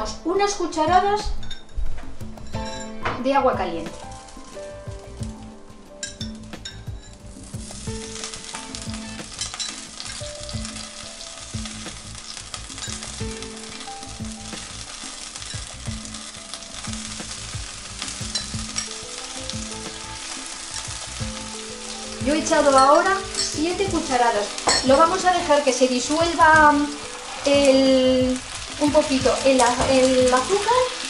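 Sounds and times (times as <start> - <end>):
caramel sizzling and spattering: 3.9 - 31.0.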